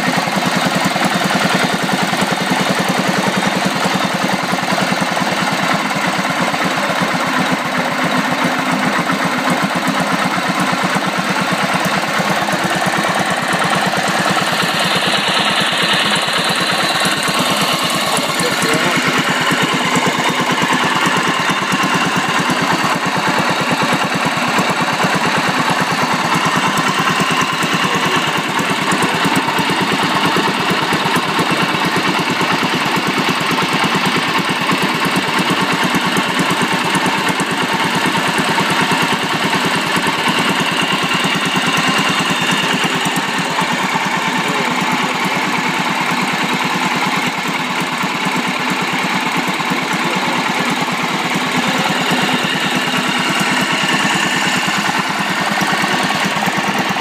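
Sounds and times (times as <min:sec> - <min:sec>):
boat engine running steadily: 0:00.0 - 0:57.0.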